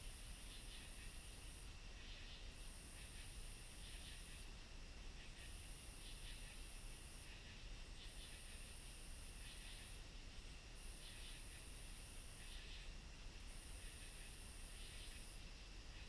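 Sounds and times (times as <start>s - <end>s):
insects buzzing in bursts: 0.0s - 16.0s
low insect trill: 0.0s - 16.0s.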